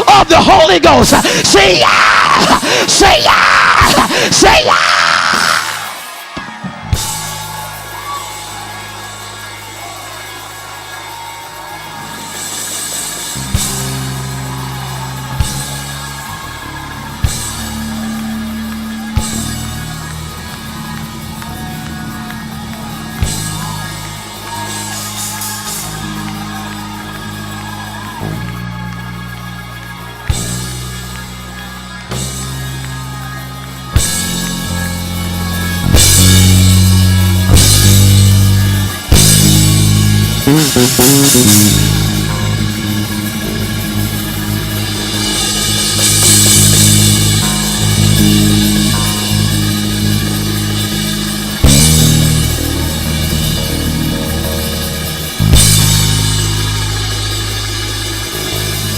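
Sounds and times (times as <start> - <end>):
live band music: 3.8 - 58.9
drum kit and cymbals: 5.3 - 58.9.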